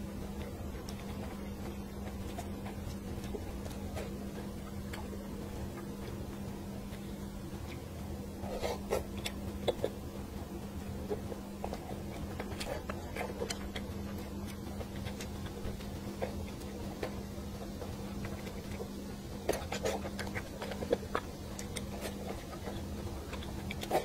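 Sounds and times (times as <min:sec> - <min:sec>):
mouth chewing sounds: 0:00.0 - 0:24.0
steady low hum: 0:00.0 - 0:24.0.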